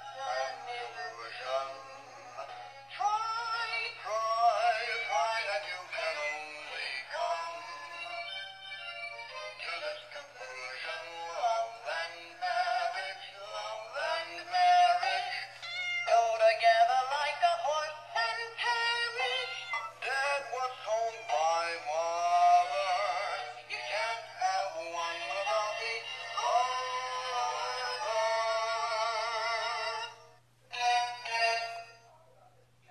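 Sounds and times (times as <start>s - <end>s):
toy speaker playing song: 0.0s - 32.0s.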